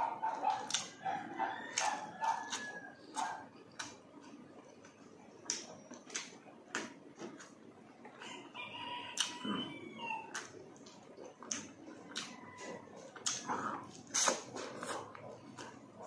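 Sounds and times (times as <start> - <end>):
wet chewing and mouth smacks: 0.2 - 8.2, 10.3 - 16.0.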